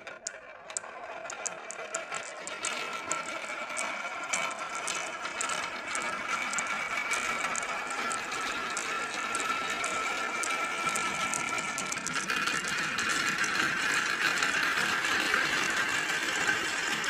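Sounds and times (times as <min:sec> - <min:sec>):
held tones: 0:00.0 - 0:17.0
marbles clicking: 0:00.0 - 0:17.0
marbles rolling on track: 0:00.0 - 0:17.0.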